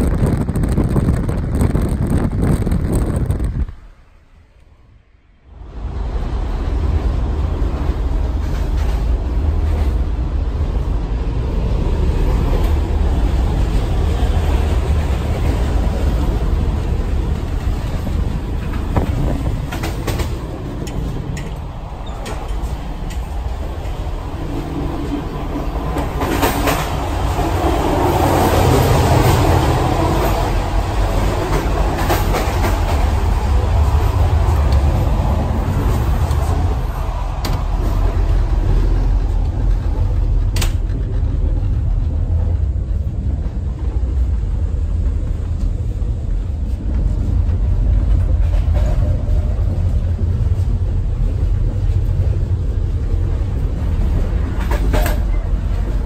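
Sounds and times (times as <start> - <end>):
train wheels rumbling on track: 0.0 - 4.8, 5.4 - 56.0
rushing sound: 0.0 - 56.0.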